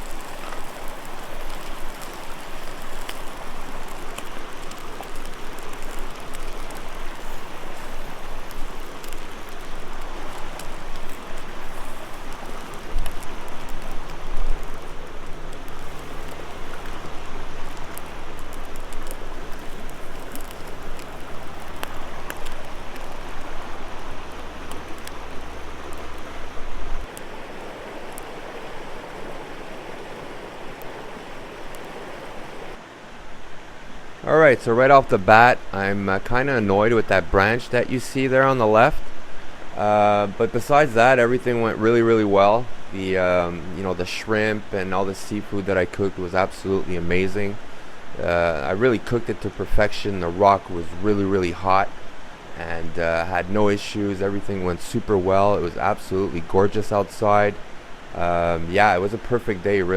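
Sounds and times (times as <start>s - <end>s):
small crackles: 0.0s - 32.8s, 39.8s - 59.9s
river water rushing: 0.0s - 59.9s.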